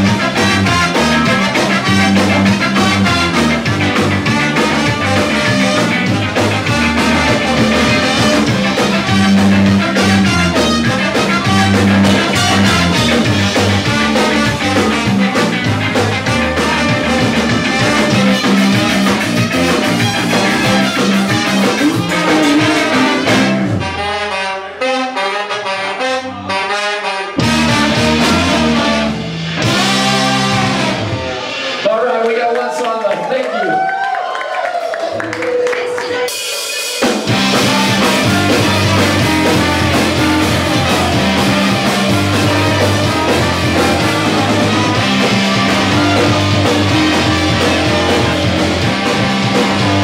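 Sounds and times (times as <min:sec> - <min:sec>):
horn section: 0:00.0 - 0:32.1, 0:35.0 - 0:50.0
guitar: 0:00.0 - 0:32.5, 0:34.2 - 0:50.0
bass: 0:00.0 - 0:32.8, 0:33.6 - 0:50.0
drums: 0:00.0 - 0:50.0.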